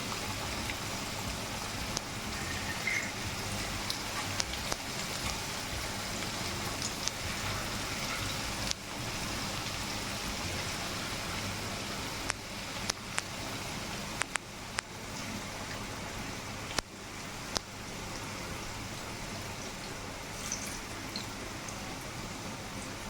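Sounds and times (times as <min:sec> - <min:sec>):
oil popping and crackling: 0:00.0 - 0:22.1
chicken deep-frying in oil: 0:00.0 - 0:23.0.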